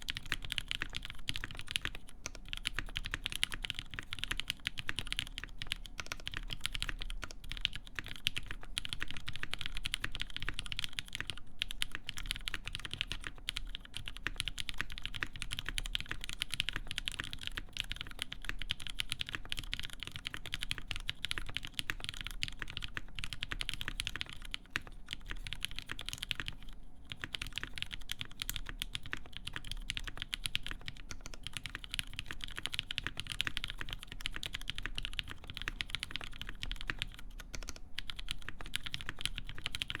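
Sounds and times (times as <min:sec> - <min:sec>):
mechanical keyboard typing: 0:00.0 - 0:40.0.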